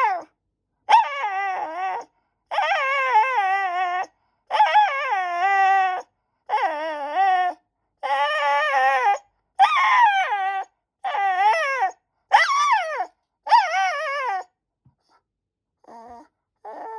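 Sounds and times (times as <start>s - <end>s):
dog whining and howling: 0.0s - 0.3s, 0.9s - 14.6s, 15.8s - 16.9s.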